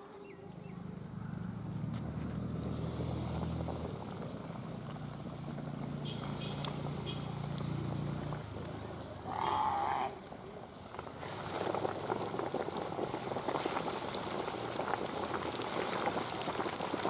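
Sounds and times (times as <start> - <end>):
engine humming: 0.0 - 16.9.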